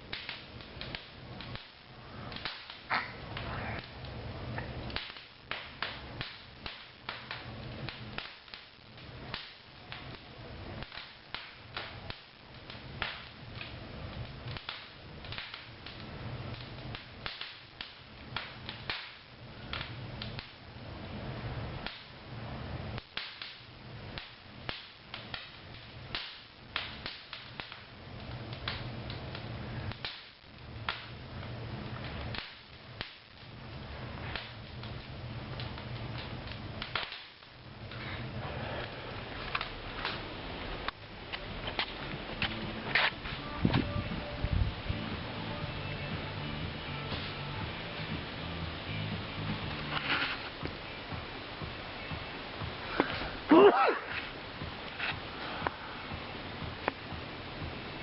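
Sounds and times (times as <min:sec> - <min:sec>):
low steady rumble: 0:00.0 - 0:23.0, 0:23.7 - 0:53.5
wood fire popping and snapping: 0:00.0 - 0:58.0.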